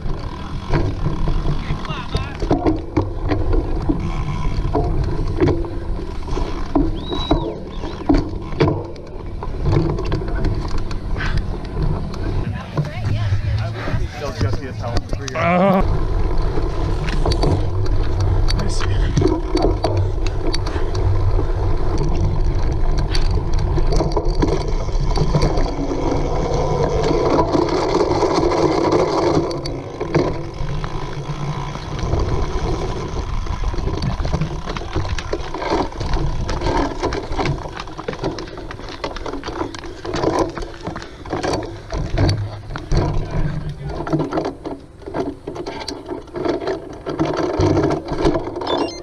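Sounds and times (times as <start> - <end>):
bike rattling and knocking: 0.0 - 49.0.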